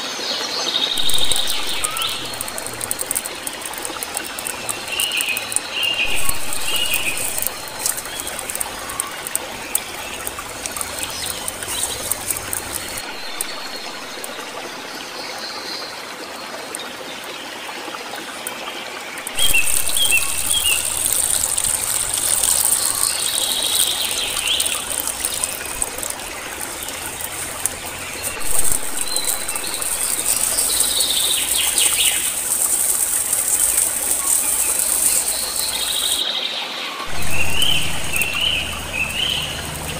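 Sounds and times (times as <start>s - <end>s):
birds chirping: 0.9s - 15.0s, 19.2s - 36.3s, 37.0s - 39.9s
steady high hiss: 1.0s - 14.9s, 19.3s - 36.2s, 37.1s - 39.9s
wood fire crackling: 1.0s - 14.9s, 19.2s - 36.2s, 37.1s - 39.9s.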